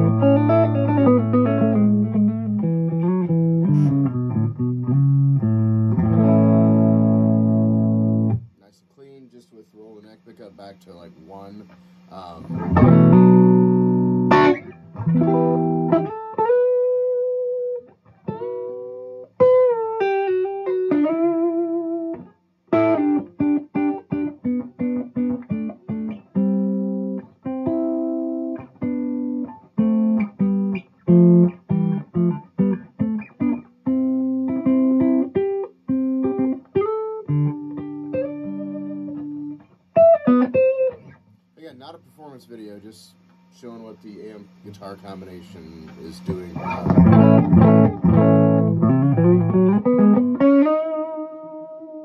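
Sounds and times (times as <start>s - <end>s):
clean electric guitar: 0.0s - 8.7s, 11.0s - 41.5s, 45.3s - 52.0s.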